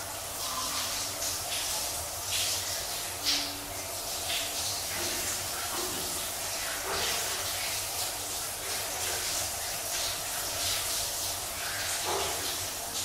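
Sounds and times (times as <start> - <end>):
shower water spraying: 0.0 - 13.0.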